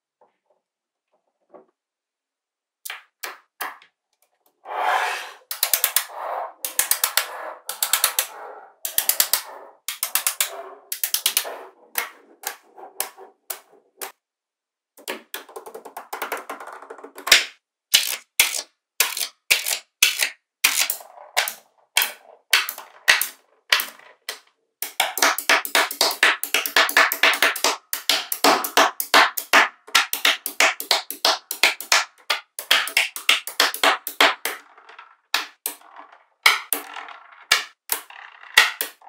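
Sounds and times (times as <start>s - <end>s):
magnetic balls clicking: 5.5s - 14.2s, 15.0s - 39.0s.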